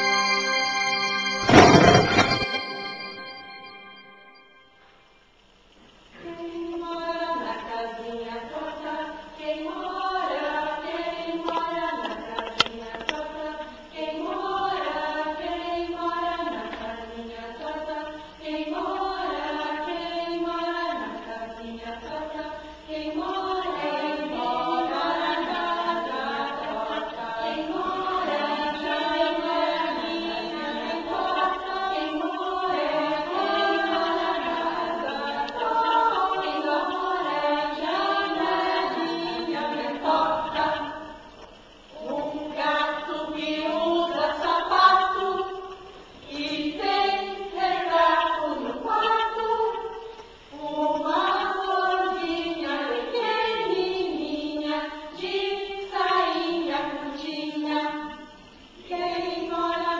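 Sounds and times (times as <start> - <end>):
choir singing: 0.0 - 4.8, 6.1 - 59.9.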